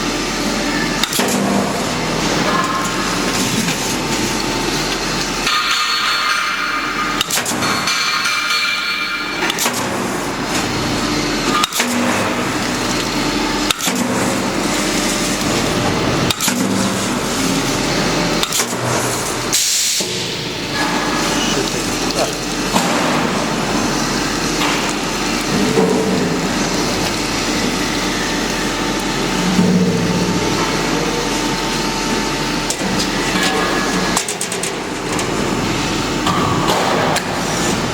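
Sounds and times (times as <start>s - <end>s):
welding machine hum: 0.0s - 37.9s.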